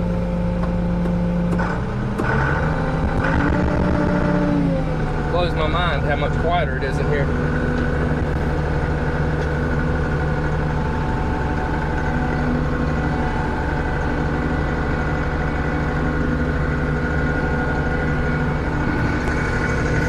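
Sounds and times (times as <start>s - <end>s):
combine engine and machinery hum: 0.0s - 20.0s.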